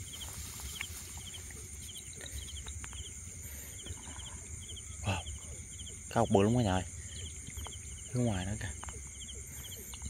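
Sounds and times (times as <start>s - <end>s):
crickets chirping: 0.0s - 10.0s
high insect hum: 0.0s - 10.0s.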